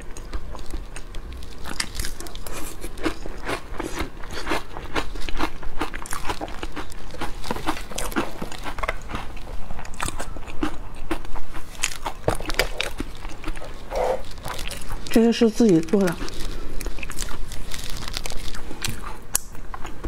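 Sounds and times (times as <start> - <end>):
person crunching food: 0.0 - 20.0.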